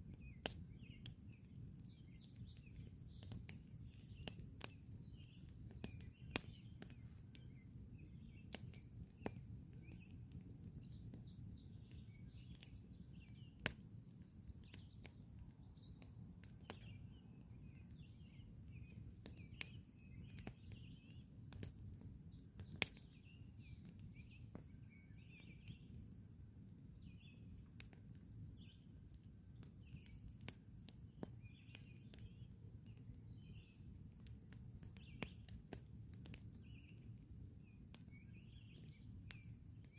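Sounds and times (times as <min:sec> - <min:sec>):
campfire crackling: 0:00.0 - 0:39.9
songbirds chirping: 0:00.0 - 0:39.9.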